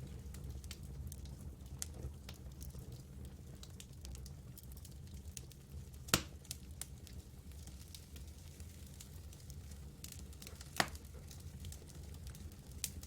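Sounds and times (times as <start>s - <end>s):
campfire wood crackling: 0.0s - 13.0s.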